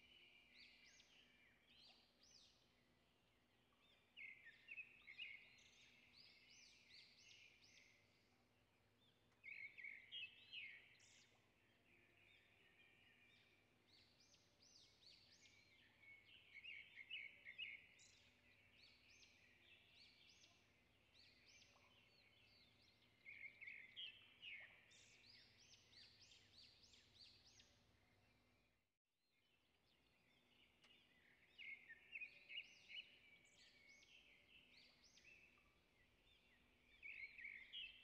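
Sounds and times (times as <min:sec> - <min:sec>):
faint birdsong chirps and trills: 0:00.0 - 0:38.0.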